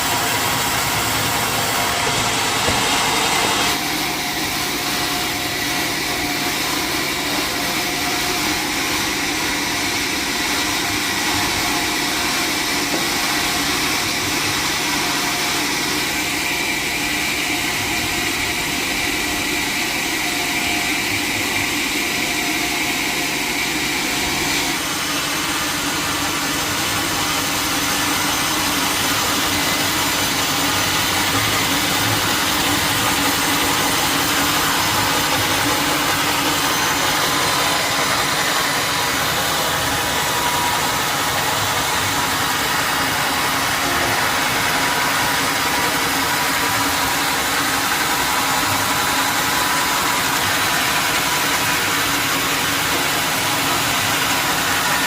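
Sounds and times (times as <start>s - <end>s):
sawmill machinery droning: 0.0s - 55.0s.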